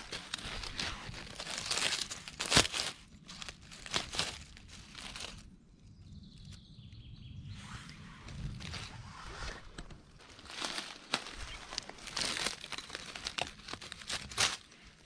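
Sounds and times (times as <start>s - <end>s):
dry leaves crackling and rustling: 0.0s - 5.6s, 8.3s - 15.0s.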